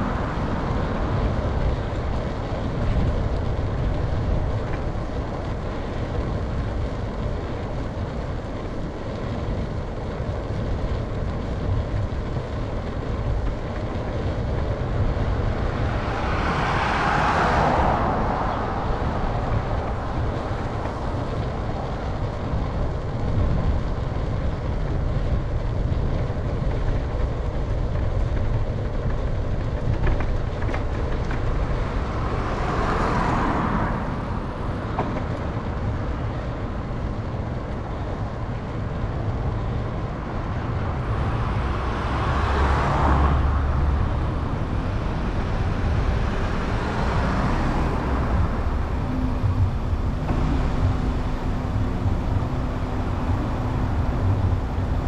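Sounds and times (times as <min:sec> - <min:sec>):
bicycle road noise: 0:00.0 - 0:55.0
motor vehicles passing: 0:00.0 - 0:55.0
wind rumble on microphone: 0:00.0 - 0:55.0.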